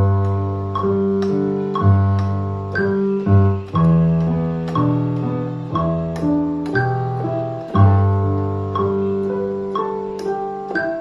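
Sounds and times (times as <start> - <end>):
piano chords over bass note: 0.0 - 11.0.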